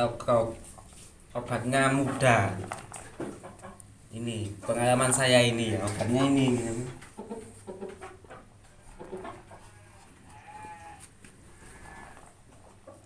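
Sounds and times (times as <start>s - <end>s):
faint farm animal calls: 1.8s - 13.0s.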